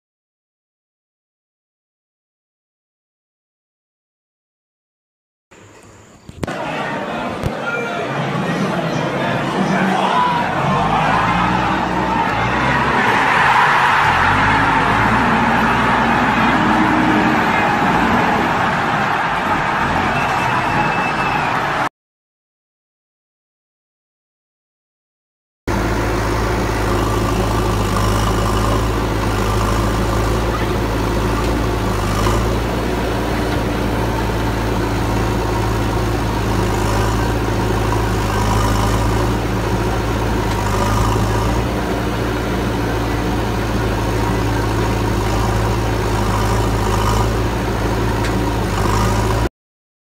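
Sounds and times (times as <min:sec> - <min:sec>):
diesel engine droning: 0:05.6 - 0:21.9, 0:25.7 - 0:49.5.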